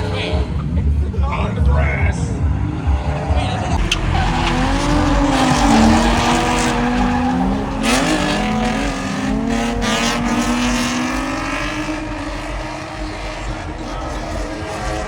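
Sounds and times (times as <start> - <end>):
car engine revving: 0.0 - 15.0
tires skidding: 0.0 - 15.0.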